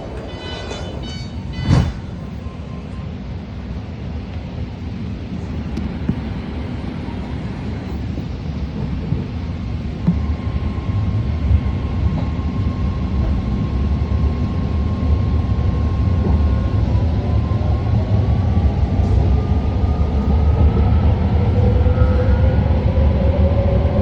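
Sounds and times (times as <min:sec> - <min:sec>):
thin steady train whine: 0:00.0 - 0:24.0
train wheels rumbling on rails: 0:00.0 - 0:24.0.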